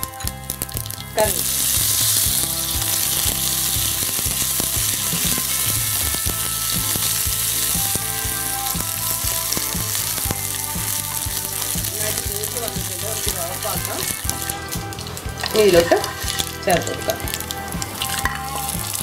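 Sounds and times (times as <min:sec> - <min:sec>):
oil sizzling in a pan: 0:00.0 - 0:19.0
sharp pops and clicks: 0:00.0 - 0:19.0.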